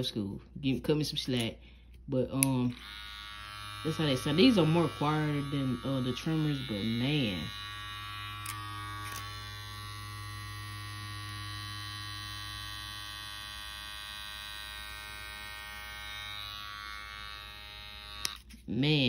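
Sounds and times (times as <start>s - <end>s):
hair clipper humming: 2.2s - 18.7s.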